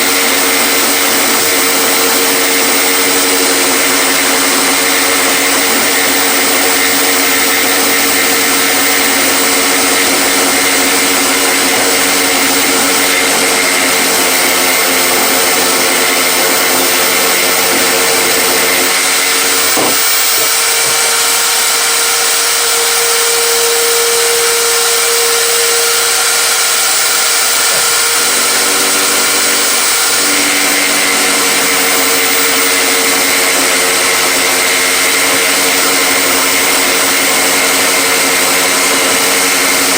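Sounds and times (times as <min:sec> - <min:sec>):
electric power tool motor: 0:00.0 - 0:39.9.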